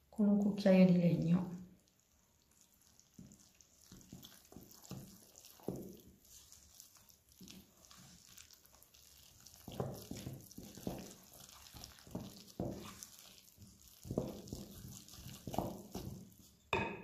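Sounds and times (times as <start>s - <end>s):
spoon stirring wet dough: 0.1s - 16.7s.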